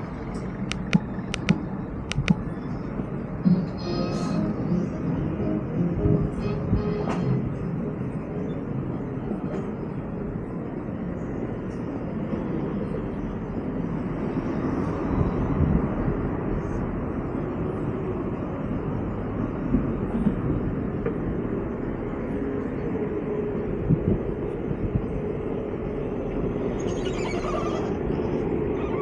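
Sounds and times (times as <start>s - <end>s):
low vehicle rumble: 0.0s - 29.0s.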